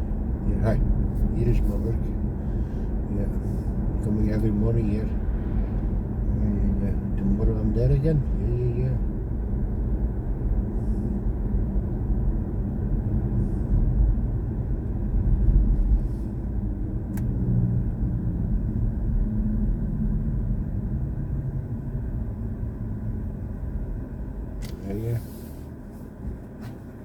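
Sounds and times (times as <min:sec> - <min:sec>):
road and tyre rumble: 0:00.0 - 0:27.0.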